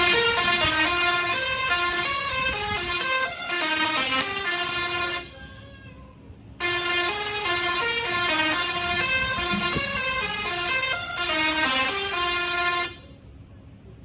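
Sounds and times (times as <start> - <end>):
tesla coils buzzing melody: 0.0 - 5.4, 6.6 - 13.2.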